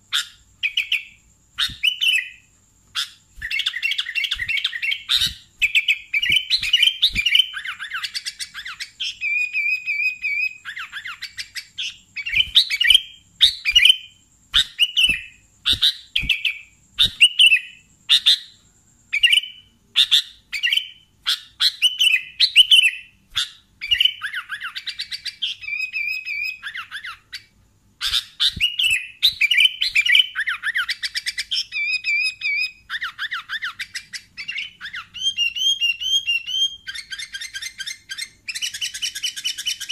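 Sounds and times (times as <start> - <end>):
bird singing whistled phrases: 0.1 - 39.9.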